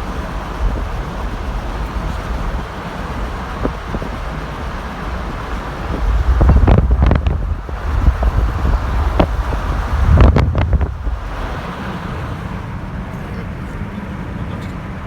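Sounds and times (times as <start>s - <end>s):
wind buffeting microphone: 0.0s - 12.7s
low vehicle drone: 0.0s - 15.0s.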